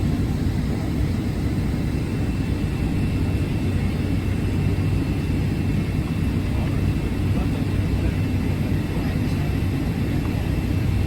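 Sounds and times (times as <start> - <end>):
jet cabin engine rumble: 0.0 - 11.0.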